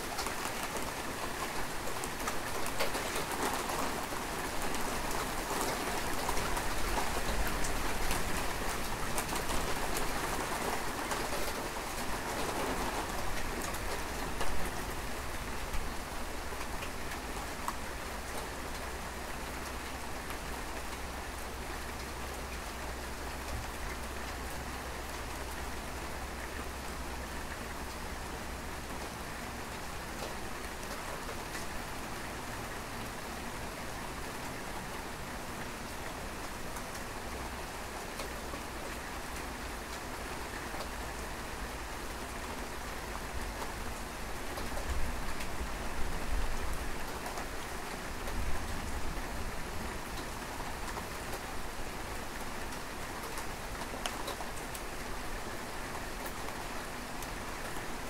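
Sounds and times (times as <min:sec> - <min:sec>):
raindrops ticking close by: 0:00.0 - 0:58.0
steady rain falling: 0:00.0 - 0:58.0.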